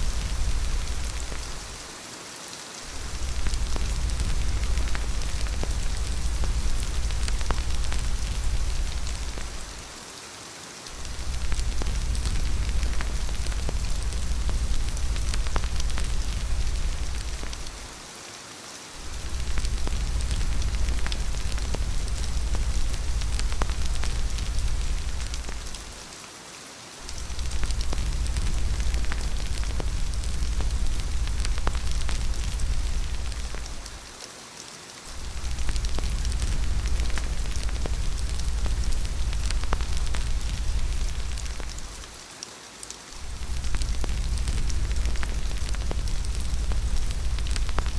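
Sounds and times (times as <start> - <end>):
low rumble: 0.0 - 1.9, 2.9 - 10.0, 11.0 - 18.0, 19.0 - 26.0, 27.1 - 34.1, 35.1 - 42.2, 43.2 - 47.9
wood fire crackling: 0.0 - 2.2, 2.8 - 10.2, 10.8 - 18.1, 18.9 - 26.2, 27.0 - 34.2, 35.0 - 47.9
steady rain: 0.0 - 47.9.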